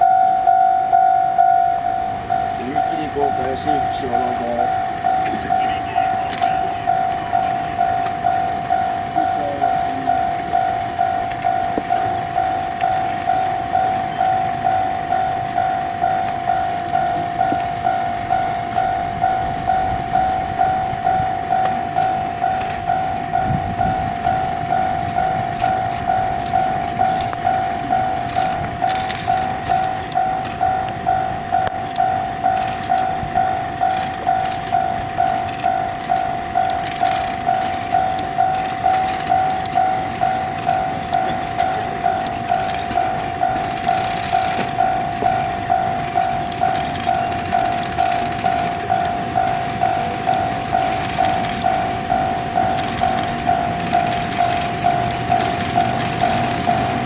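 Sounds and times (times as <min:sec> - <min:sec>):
level crossing warning bell: 0:00.0 - 0:57.0.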